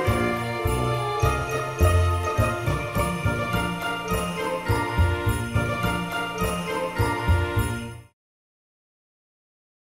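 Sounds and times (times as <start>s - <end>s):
music with jingle bells: 0.0s - 8.2s.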